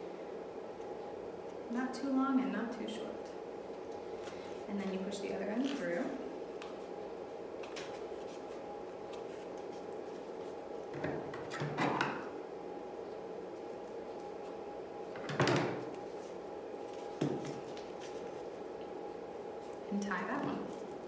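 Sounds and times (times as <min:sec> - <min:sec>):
steady room hum: 0:00.0 - 0:21.0.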